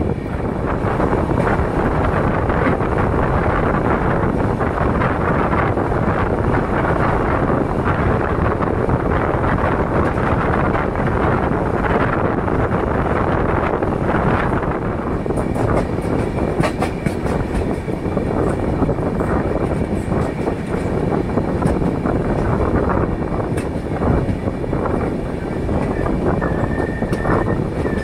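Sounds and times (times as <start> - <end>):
train wheels rumbling on rail: 0.0 - 28.0
sharp clicks from train wheels: 0.2 - 10.9, 14.4 - 28.0.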